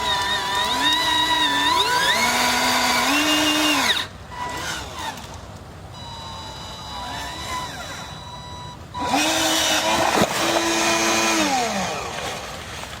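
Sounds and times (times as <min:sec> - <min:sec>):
small electric motor whining: 0:00.0 - 0:05.4, 0:06.0 - 0:12.5.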